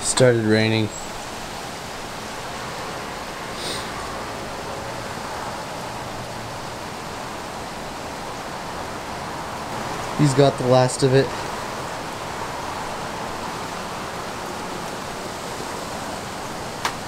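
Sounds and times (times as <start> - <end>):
rain falling hard: 0.0 - 17.0.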